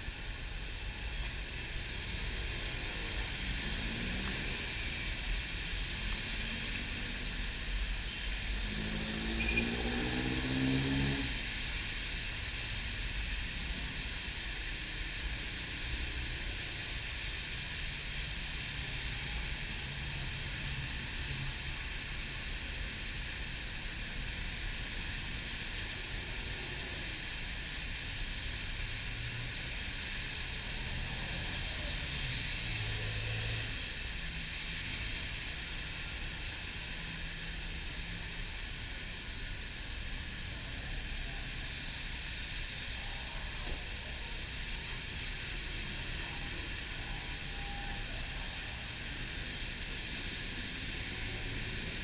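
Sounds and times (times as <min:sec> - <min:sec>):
bus engine drone: 0:00.0 - 0:52.0
rain hissing: 0:00.0 - 0:52.0
wet road noise: 0:00.0 - 0:52.0.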